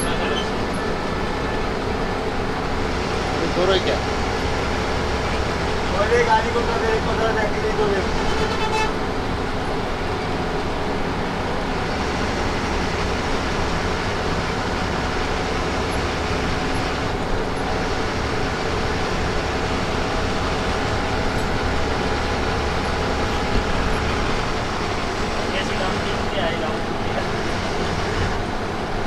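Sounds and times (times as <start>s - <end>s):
bus engine and road noise: 0.0s - 29.0s.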